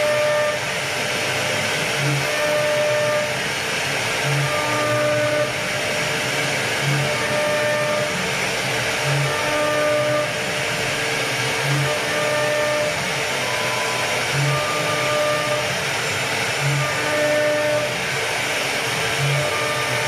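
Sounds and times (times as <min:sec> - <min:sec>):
router spindle whirring: 0:00.0 - 0:20.0.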